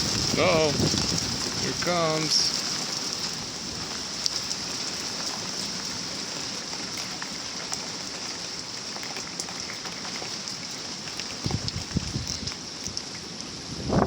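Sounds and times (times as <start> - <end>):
rain pouring: 0.0 - 14.0
raindrops ticking on surfaces: 0.0 - 14.0.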